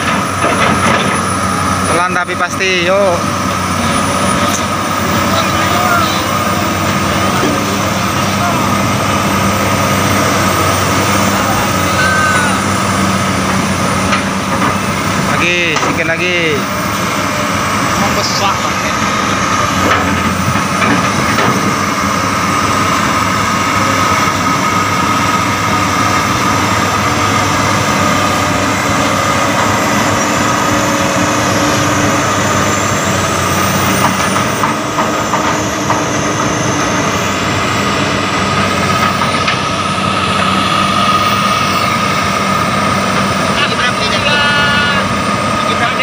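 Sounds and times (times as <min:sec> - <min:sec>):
diesel excavator engines rumbling: 0:00.0 - 0:46.0
steady high whine: 0:00.0 - 0:46.0.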